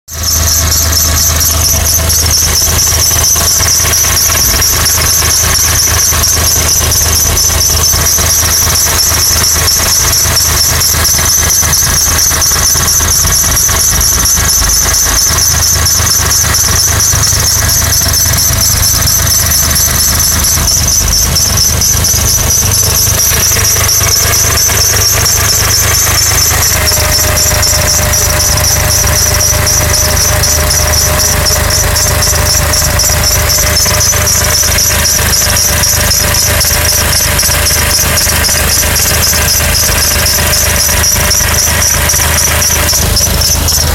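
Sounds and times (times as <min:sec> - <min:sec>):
car engine running: 0:00.0 - 0:43.9
high-pitched squeal: 0:00.1 - 0:43.9.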